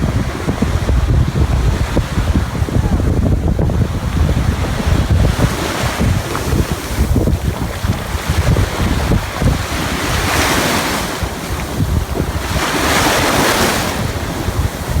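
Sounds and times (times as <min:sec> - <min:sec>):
ocean waves breaking on beach: 0:00.0 - 0:15.0
wind buffeting microphone: 0:00.0 - 0:15.0.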